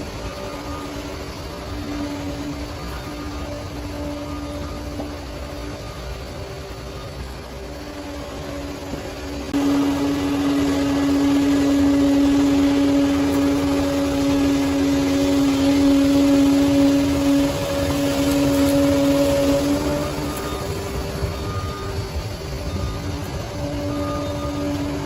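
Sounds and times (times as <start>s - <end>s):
bulldozer engine rumbling: 0.0s - 25.0s
loud steady drone: 0.0s - 25.0s.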